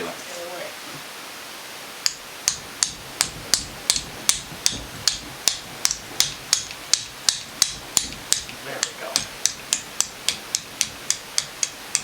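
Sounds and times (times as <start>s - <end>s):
hammer tapping on metal: 2.0s - 12.0s.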